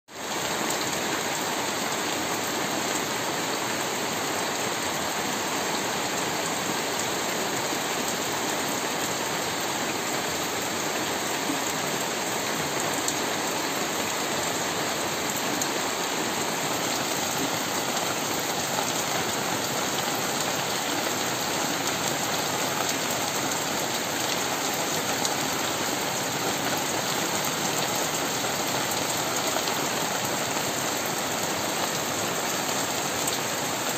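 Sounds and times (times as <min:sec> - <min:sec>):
rain on plastic sheet and mud: 0:00.1 - 0:33.9.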